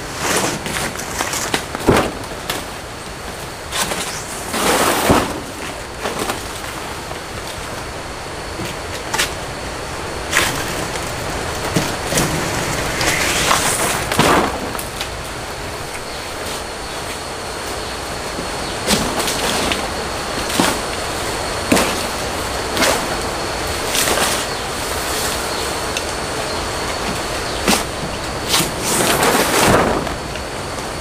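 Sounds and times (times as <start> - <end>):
leaves rustling and swishing: 0.0 - 30.7
steady hiss: 0.0 - 31.0.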